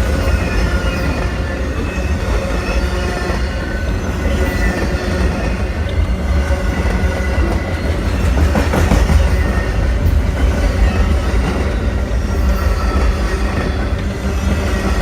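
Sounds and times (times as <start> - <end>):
train cars rumbling over track: 0.0 - 15.0.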